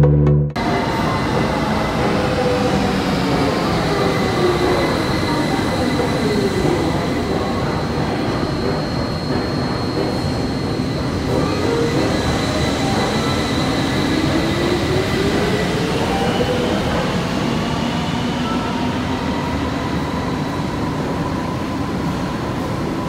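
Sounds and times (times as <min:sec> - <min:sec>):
metro train rumbling: 0:00.0 - 0:23.0.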